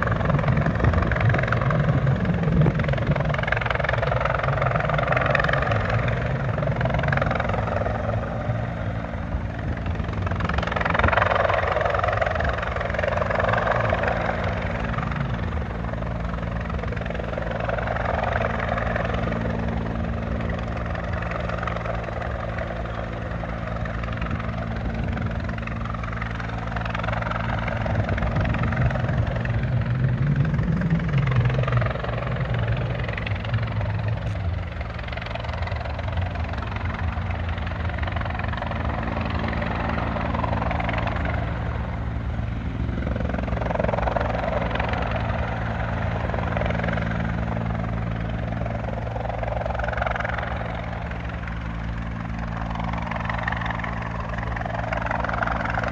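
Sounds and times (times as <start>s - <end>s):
helicopter hovering: 0.0s - 55.9s.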